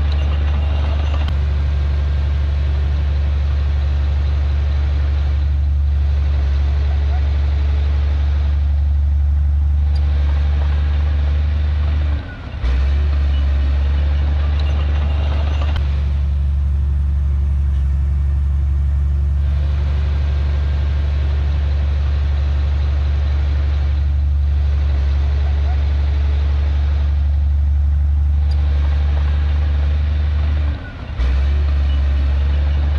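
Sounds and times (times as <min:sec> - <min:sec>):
heavy diesel engine droning: 0:00.0 - 0:32.9.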